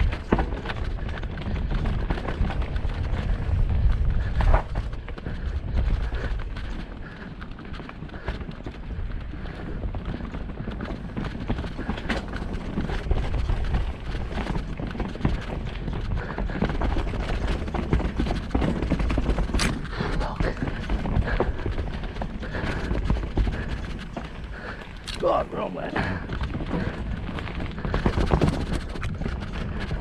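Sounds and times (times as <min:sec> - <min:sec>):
wind rumble on microphone: 0:00.0 - 0:25.2, 0:26.0 - 0:30.0
bike rattling: 0:00.0 - 0:30.0
bike tyres rumbling over roots: 0:00.0 - 0:30.0.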